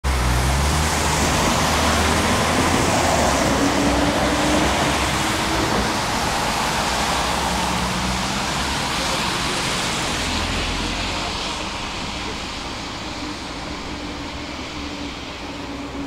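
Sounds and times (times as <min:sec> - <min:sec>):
tram rumbling and rolling: 0:00.0 - 0:16.0.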